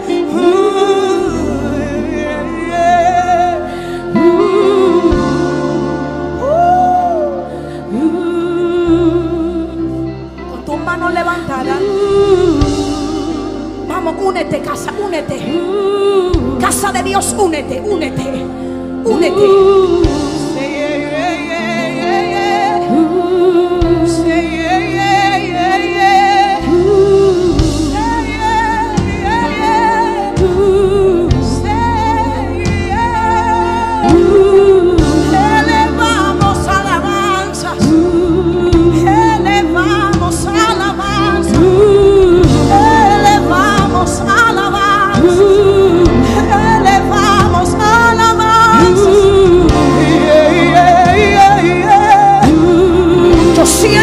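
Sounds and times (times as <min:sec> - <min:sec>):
keyboard and bass chords: 0:00.0 - 0:54.0
woman singing: 0:00.0 - 0:54.0.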